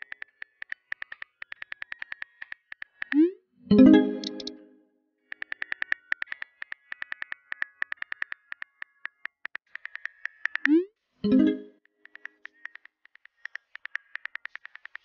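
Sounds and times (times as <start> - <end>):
phone keyboard clicks: 0.0 - 3.2, 4.2 - 4.5, 5.3 - 10.8, 12.0 - 15.0.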